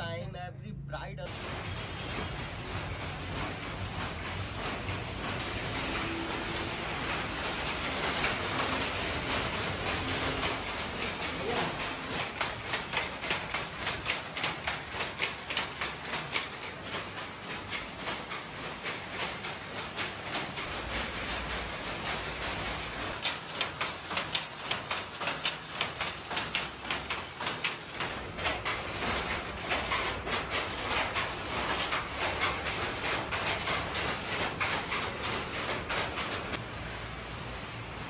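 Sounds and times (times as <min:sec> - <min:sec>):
weaving looms clattering: 0:01.2 - 0:36.6.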